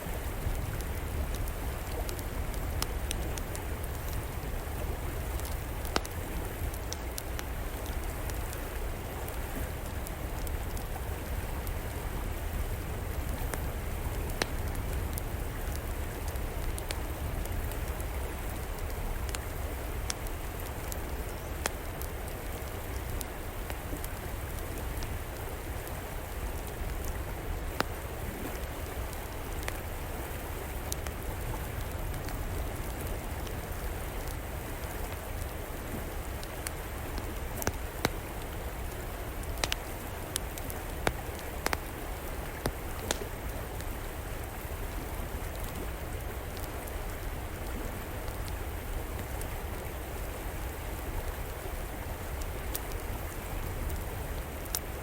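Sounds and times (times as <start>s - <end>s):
river flowing: 0.0s - 55.0s
wood fire crackling: 0.0s - 55.0s.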